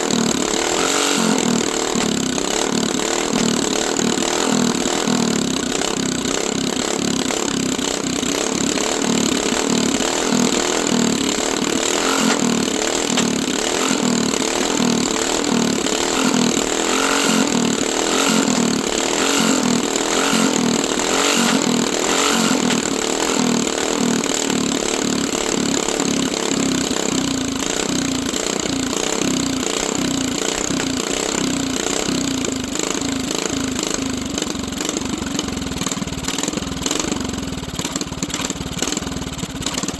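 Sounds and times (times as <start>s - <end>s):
small engine running unevenly: 0.0s - 39.9s.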